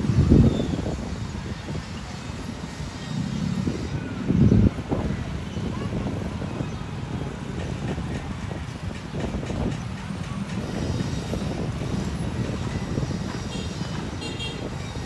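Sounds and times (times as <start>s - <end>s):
city background noise: 0.0s - 15.0s.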